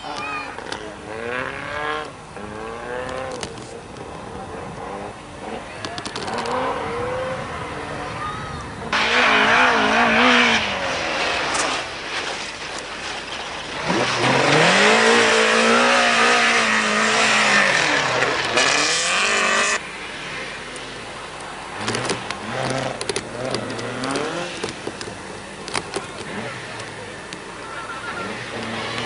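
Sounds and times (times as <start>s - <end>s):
rally car engine revving: 0.0s - 8.1s, 8.8s - 29.0s
second car revving: 0.0s - 29.0s.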